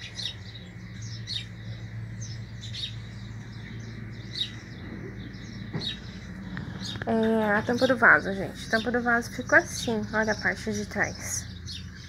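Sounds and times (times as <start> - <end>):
small bird chirping: 0.0 - 12.0
steady low hum: 0.0 - 12.0.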